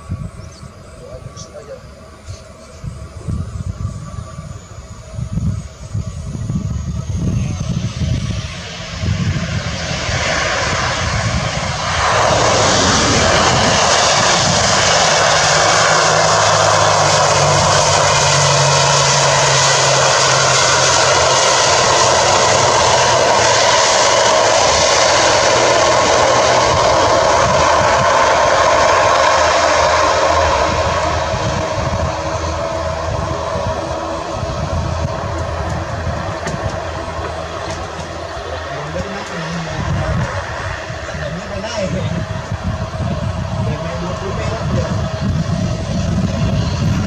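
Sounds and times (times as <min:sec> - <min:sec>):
turboprop propeller drone: 0:00.0 - 0:47.0.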